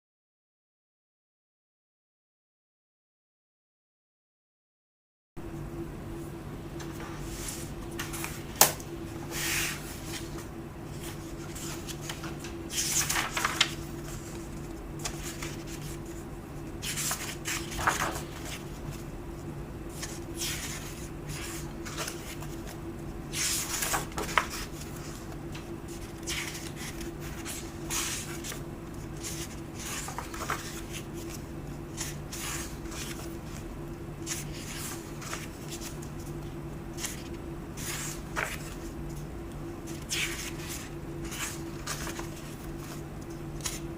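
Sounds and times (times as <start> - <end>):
steady low hum: 5.4 - 43.9
book pages turning: 6.8 - 19.1, 19.9 - 39.2, 39.8 - 43.9.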